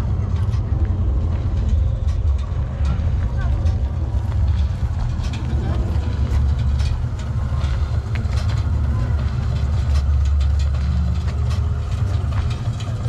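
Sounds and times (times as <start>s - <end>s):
low car engine rumble: 0.0s - 13.0s.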